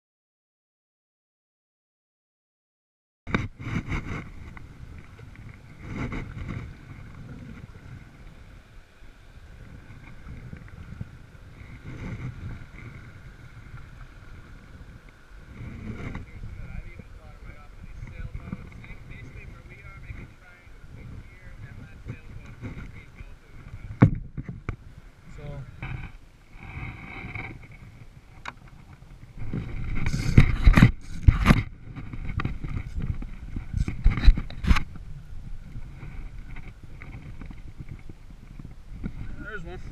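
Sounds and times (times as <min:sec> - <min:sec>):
kayak paddle dipping into water: 0:03.3 - 0:39.9
wind on microphone: 0:03.3 - 0:39.9.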